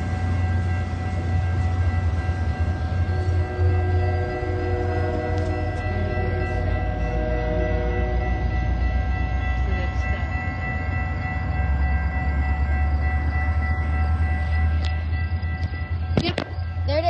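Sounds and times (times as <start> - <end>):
steady tones: 0.0 - 17.0
train rumbling: 0.0 - 17.0.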